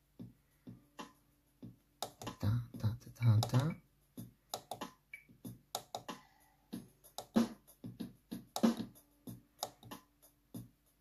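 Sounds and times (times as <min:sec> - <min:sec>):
drum machine beat: 0:00.0 - 0:11.0.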